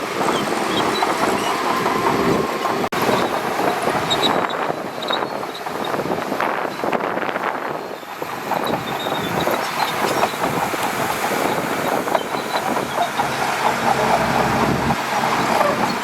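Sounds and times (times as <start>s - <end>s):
bulldozer running: 0.0s - 16.0s
steel tracks clanking and squealing: 0.0s - 16.0s.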